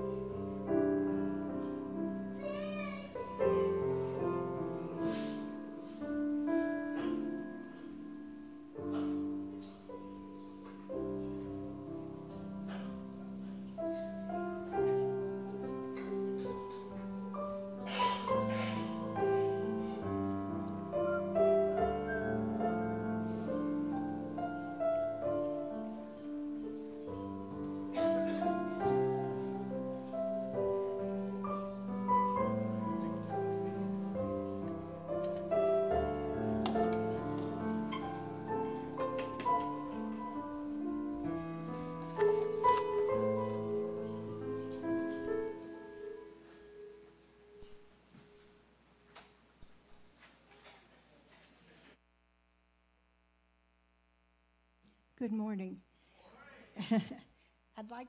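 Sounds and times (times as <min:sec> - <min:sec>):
piano music: 0:00.0 - 0:48.6.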